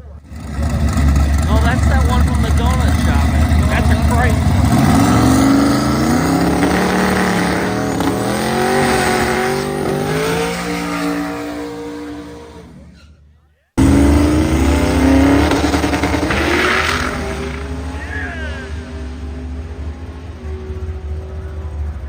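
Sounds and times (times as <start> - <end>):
drag car engine accelerating: 0.0 - 22.0.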